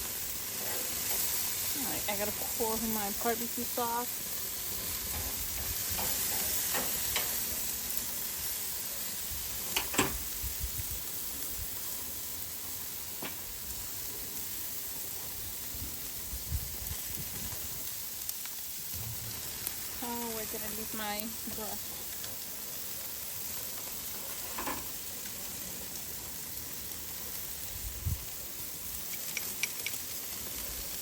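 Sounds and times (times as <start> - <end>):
meat sizzling on a grill: 0.0 - 31.0.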